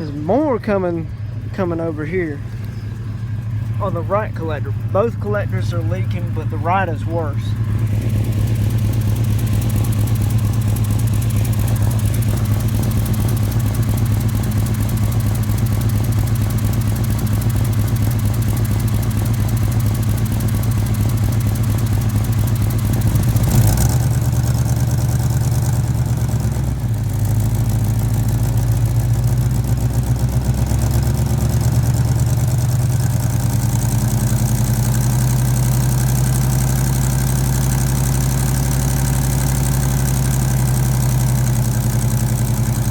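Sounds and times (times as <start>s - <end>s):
engine knock: 0.0s - 42.9s
pickup truck engine idling: 0.0s - 42.9s
exhaust leak ticking puff: 2.4s - 42.9s.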